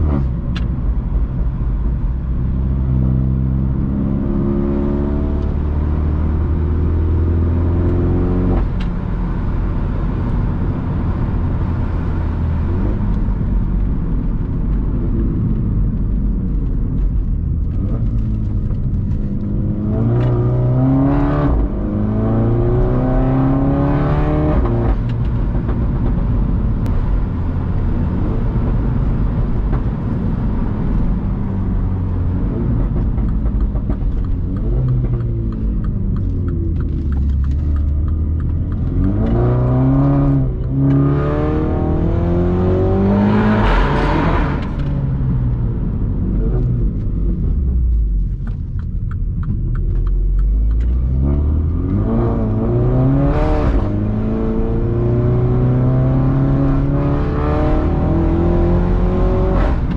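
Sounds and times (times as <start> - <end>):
car exhaust accelerating through gears: 0.0 - 59.9.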